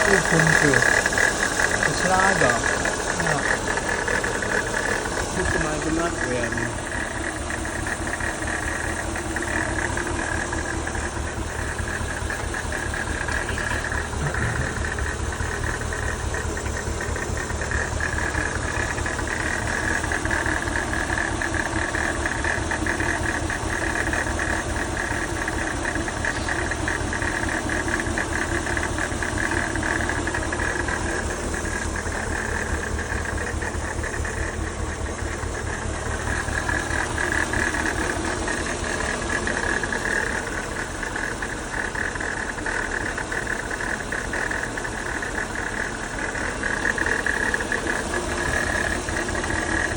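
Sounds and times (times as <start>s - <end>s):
car engine idling: 0.0s - 49.9s
power steering pump whine: 0.0s - 49.9s.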